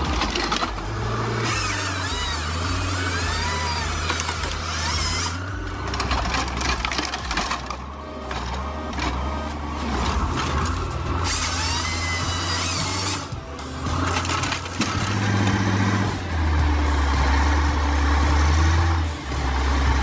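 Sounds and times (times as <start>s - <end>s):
background music: 0.0s - 20.0s
high wavering squeaks: 0.0s - 20.0s
machine engine running: 0.0s - 20.0s.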